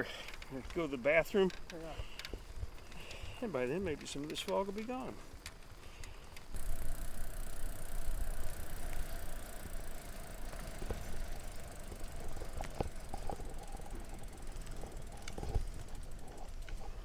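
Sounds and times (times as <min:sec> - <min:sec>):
whine of moving trike: 0:00.0 - 0:17.0
wind and road rumble: 0:00.0 - 0:17.0.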